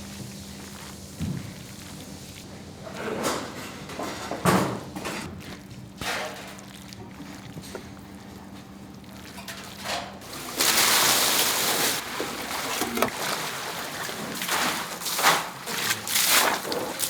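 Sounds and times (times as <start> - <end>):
clattering sloshing handling noises: 2.9 - 17.0.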